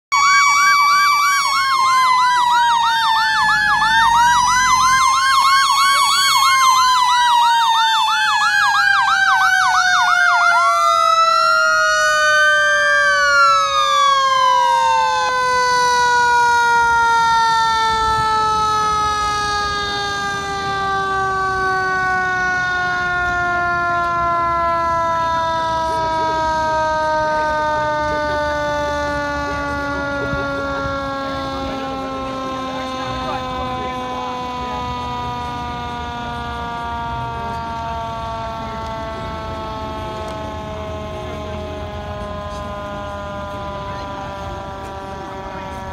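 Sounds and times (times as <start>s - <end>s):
fast yelping siren: 0.1s - 45.9s
wailing siren: 0.1s - 45.9s.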